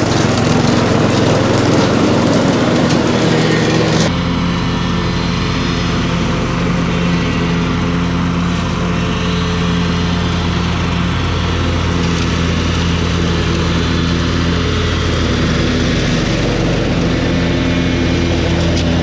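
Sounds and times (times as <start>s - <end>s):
ride-on lawn mower running: 0.0s - 19.0s.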